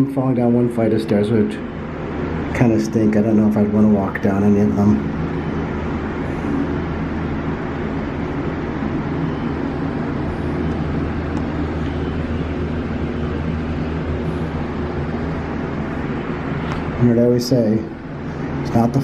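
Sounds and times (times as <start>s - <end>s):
elevator hum and rumble: 0.0s - 19.0s.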